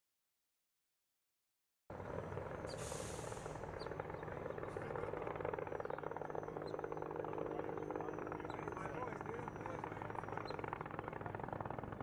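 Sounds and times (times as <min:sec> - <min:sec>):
helicopter rotor chopping: 0:01.9 - 0:12.0.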